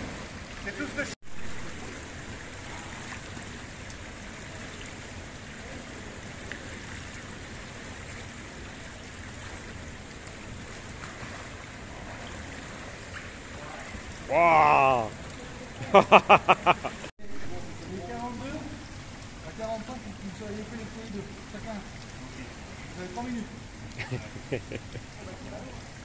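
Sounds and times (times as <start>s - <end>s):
swimming pool water wash: 0.0s - 26.0s.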